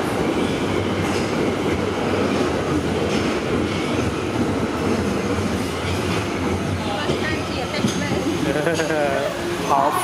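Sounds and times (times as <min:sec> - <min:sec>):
subway train rumbling on rails: 0:00.0 - 0:10.0.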